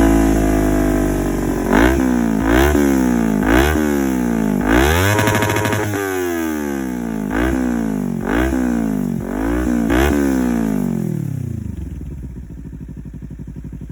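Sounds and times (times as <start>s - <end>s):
motorcycle engine idling: 0.0s - 13.9s
motorcycle engine revving: 0.0s - 13.9s.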